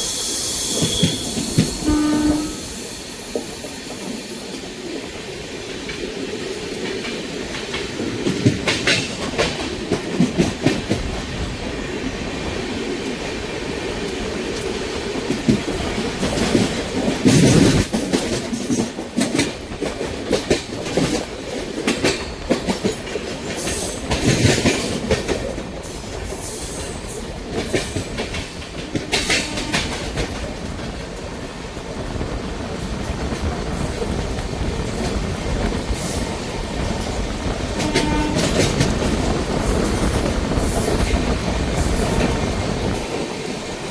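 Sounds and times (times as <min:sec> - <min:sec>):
train wheels rumbling: 0:00.0 - 0:43.9
clickety-clack over rail joints: 0:00.1 - 0:43.9.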